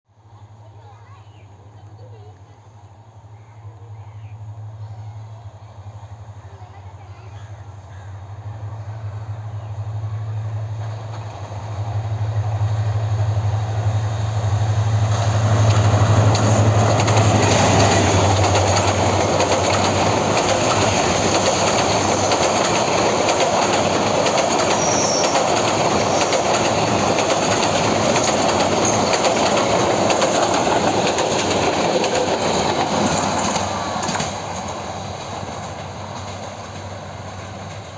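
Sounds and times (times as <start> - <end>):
train wheels rumbling on rails: 0.2 - 37.9
locomotive engine humming: 0.3 - 37.9.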